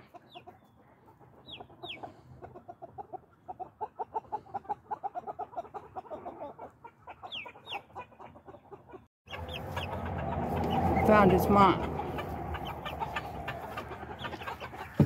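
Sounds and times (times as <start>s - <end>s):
chick peeping: 0.0s - 15.0s
chickens clucking: 0.0s - 15.0s.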